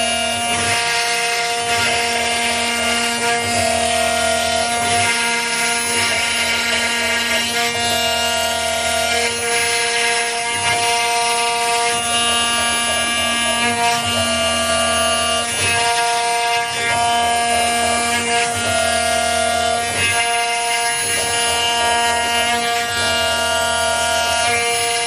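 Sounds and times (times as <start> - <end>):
bit rasping through wood: 0.0 - 25.0
router spindle whine: 0.0 - 25.0.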